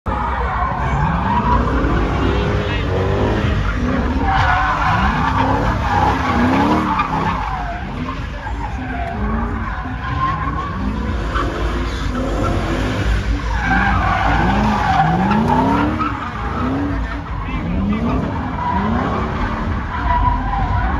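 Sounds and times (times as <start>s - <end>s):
car engine revving: 0.1s - 20.9s
tyre screech: 0.1s - 20.9s.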